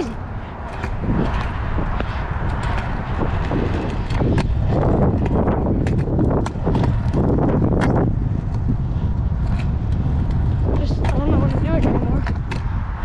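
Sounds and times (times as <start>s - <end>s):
scooter clicks and knocks: 0.0s - 13.0s
scooter wheels rumbling on concrete: 0.0s - 13.0s.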